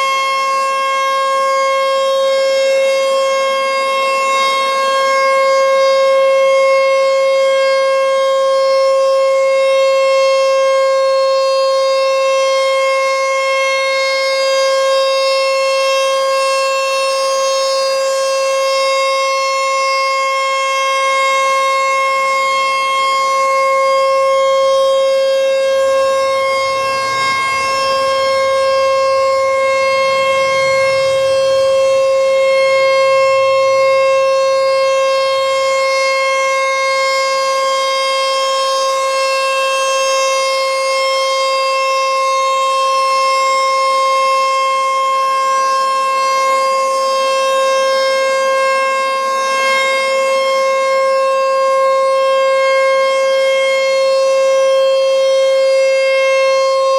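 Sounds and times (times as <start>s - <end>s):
tornado warning siren: 0.0s - 56.9s.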